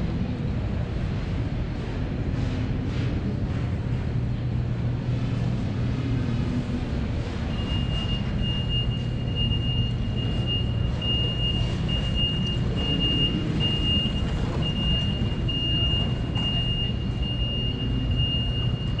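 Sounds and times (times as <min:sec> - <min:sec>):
low rumble of hall noise: 0:00.0 - 0:19.0.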